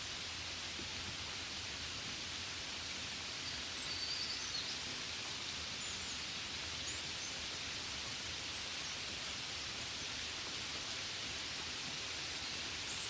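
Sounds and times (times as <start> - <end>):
gentle rain falling: 0.0 - 13.0.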